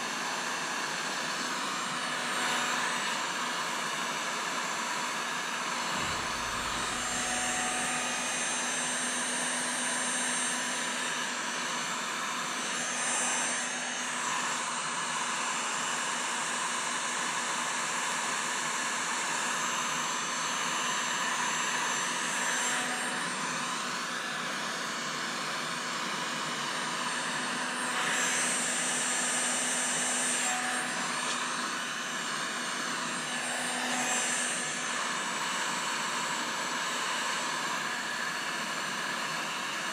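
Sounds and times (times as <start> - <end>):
heat gun fan blowing: 0.0 - 39.9.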